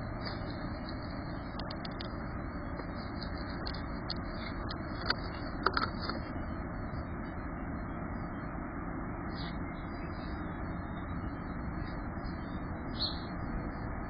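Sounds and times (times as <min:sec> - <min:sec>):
background rumble and hiss: 0:00.0 - 0:14.0.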